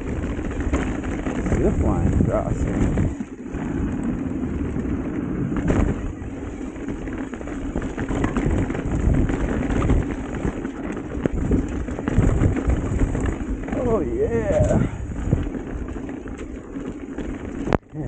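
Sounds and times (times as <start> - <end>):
bike frame rattling and knocking: 0.0 - 18.0
tyres rumbling on dirt: 0.0 - 18.0
wind buffeting microphone: 0.0 - 18.0.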